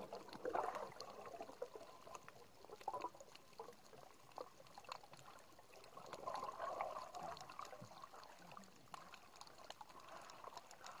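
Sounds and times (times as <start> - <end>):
crackling clicks underwater: 0.0 - 11.0.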